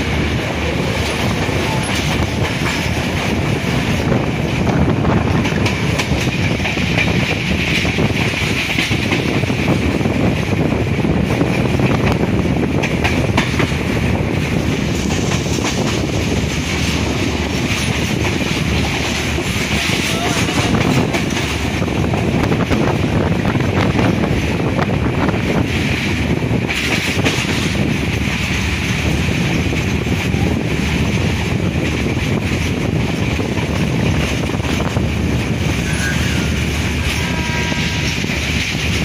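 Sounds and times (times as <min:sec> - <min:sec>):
train running noise: 0:00.0 - 0:39.0
wind buffeting the microphone: 0:00.0 - 0:39.0.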